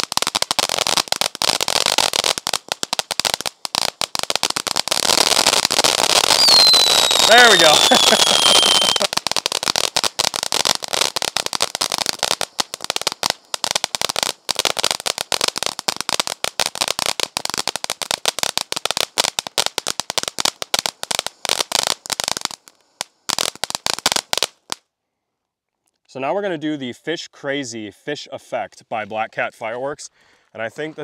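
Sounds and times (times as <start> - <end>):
firework crackling pops: 0.0 - 24.9.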